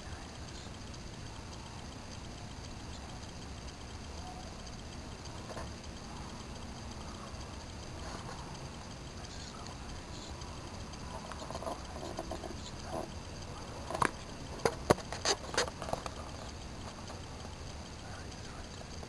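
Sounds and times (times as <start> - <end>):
faint hiss: 0.0 - 19.0
sharp clicks and knocks: 0.0 - 19.0.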